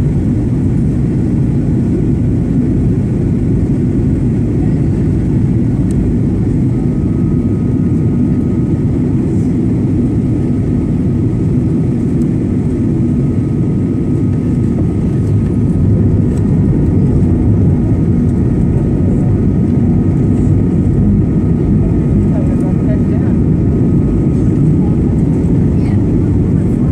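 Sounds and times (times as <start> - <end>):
roar of aircraft engines and airflow: 0.0 - 26.9.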